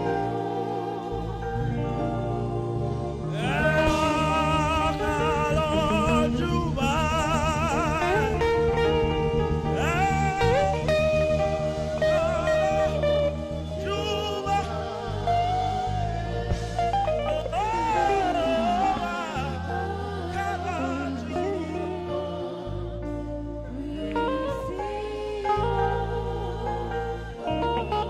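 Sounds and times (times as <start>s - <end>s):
backing instruments low notes: 0.0s - 28.0s
saxophone gospel melody: 0.0s - 28.0s.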